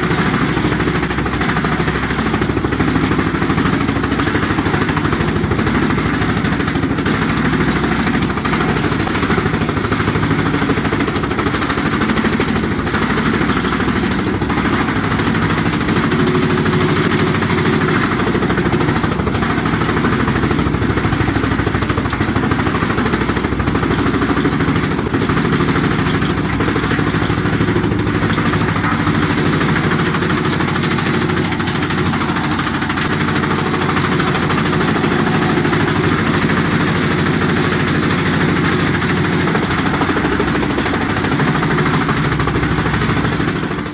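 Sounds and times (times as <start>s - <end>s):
wood chipper running: 0.0s - 43.9s.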